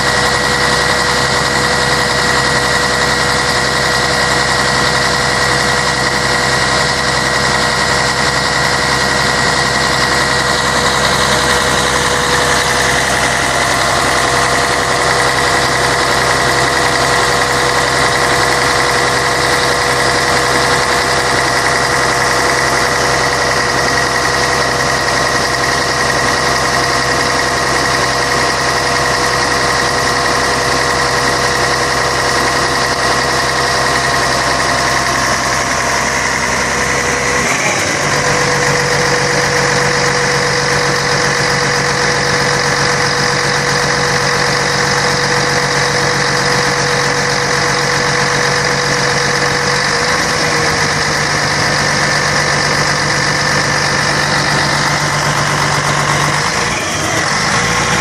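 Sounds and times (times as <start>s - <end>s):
bus diesel engine running: 0.0s - 58.0s
constant whine: 0.0s - 58.0s.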